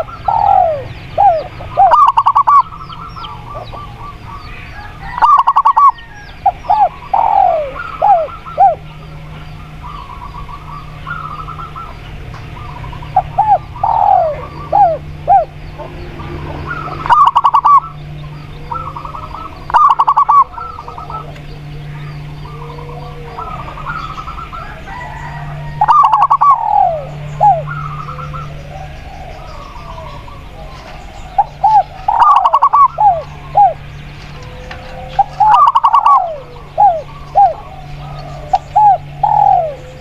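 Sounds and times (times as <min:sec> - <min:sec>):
doves cooing: 0:00.0 - 0:40.0
small birds chirping: 0:00.0 - 0:40.0
steady low hum: 0:00.0 - 0:40.0.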